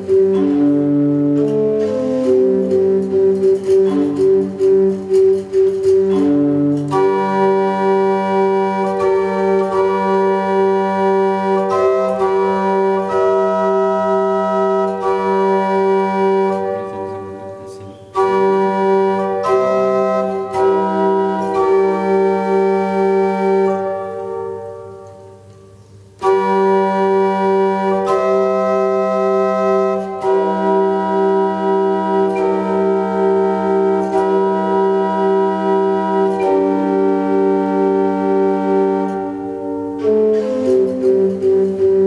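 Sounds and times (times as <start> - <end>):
organ music: 0.0 - 42.0.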